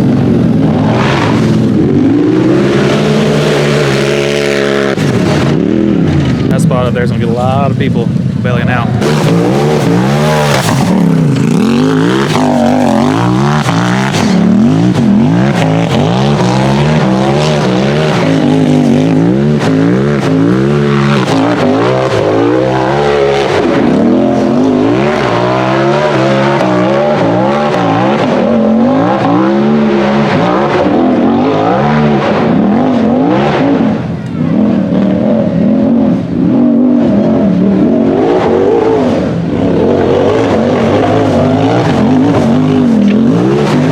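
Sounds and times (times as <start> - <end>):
buggy engine revving: 0.0 - 43.9.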